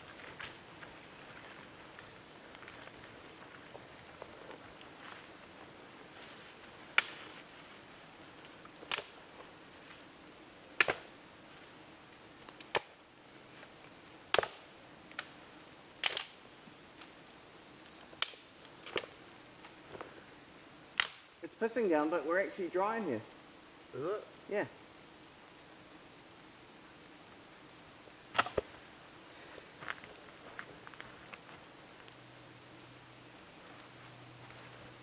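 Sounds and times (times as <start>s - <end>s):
faint hiss: 0.0s - 35.0s.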